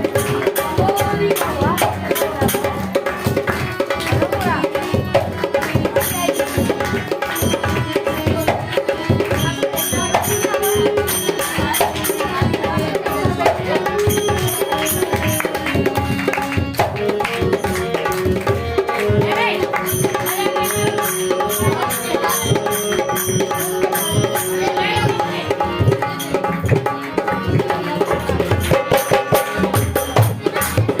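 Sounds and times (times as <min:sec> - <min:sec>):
fast hand-drum rhythm: 0:00.0 - 0:31.0
held melodic line: 0:00.0 - 0:31.0.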